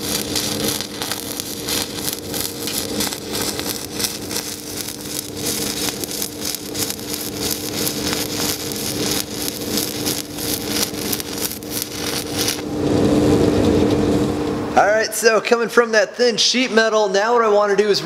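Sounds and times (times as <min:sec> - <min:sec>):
welding arc crackling: 0:00.0 - 0:14.6
steady hum: 0:00.0 - 0:17.4.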